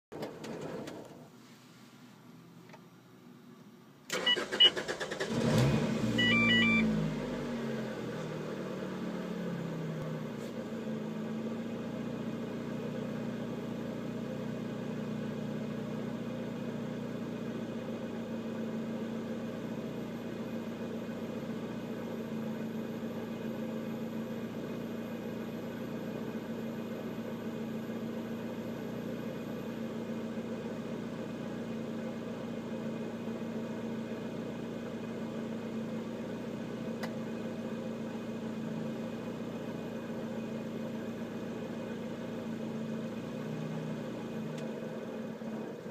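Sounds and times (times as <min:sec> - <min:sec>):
car engine starting and idling: 0:00.1 - 0:45.9.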